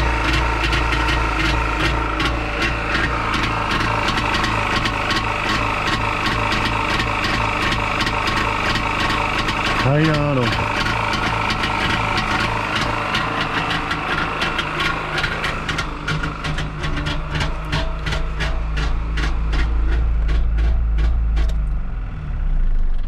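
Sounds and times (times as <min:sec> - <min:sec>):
sharp engine ticking: 0:00.0 - 0:21.8
two-stroke engine idling: 0:00.0 - 0:23.0.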